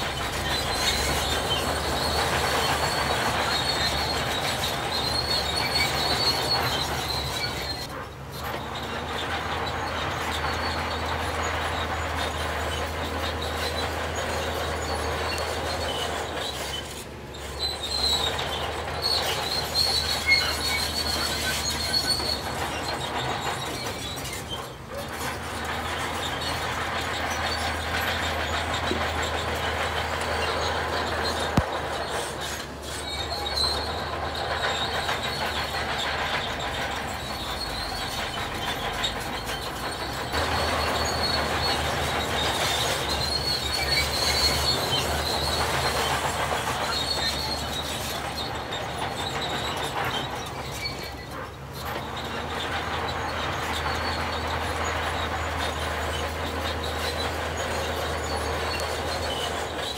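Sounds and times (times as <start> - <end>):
diesel earthmoving machinery: 0.0 - 59.9
high squeal: 0.0 - 59.9.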